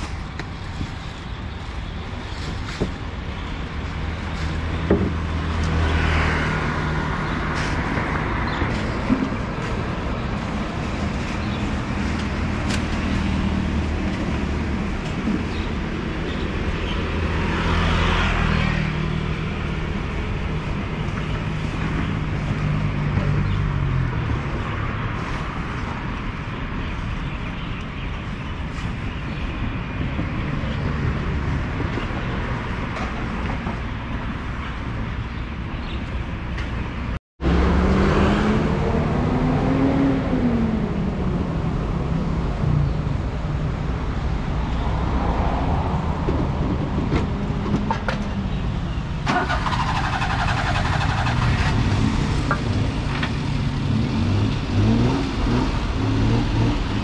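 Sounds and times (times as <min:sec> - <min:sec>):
vehicle engines humming: 0:00.0 - 0:57.0.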